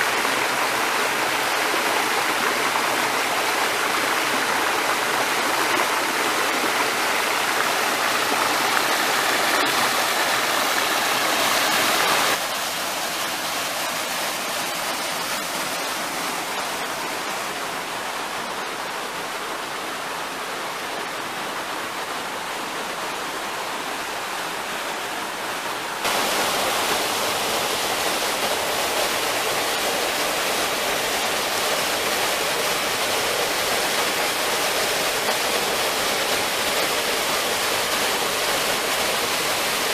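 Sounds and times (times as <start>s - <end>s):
creek and waterfall rushing: 0.0s - 39.9s.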